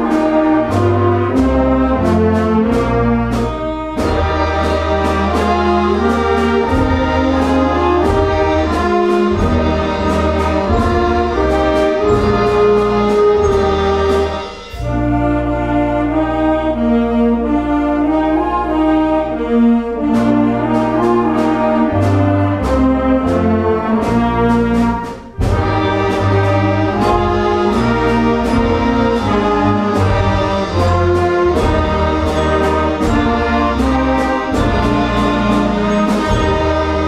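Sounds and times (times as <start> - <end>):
concert band playing: 0.0 - 37.0.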